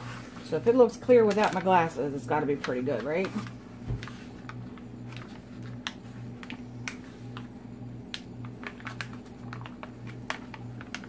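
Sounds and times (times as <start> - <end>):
low steady hum: 0.0 - 11.0
plastic film crinkling: 1.0 - 11.0.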